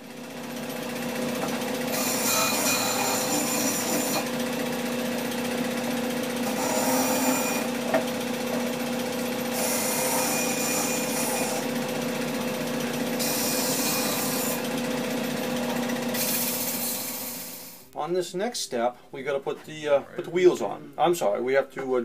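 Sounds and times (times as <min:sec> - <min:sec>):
sander motor hum: 0:00.0 - 0:17.8.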